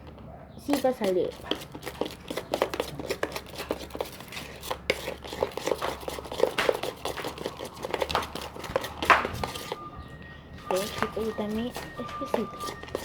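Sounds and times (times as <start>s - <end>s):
slime being stirred: 0.0s - 13.0s.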